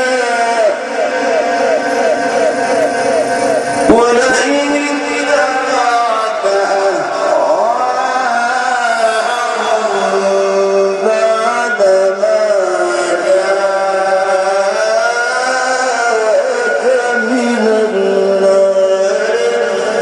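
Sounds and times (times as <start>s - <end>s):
man chanting melodic recitation: 0.0s - 20.0s.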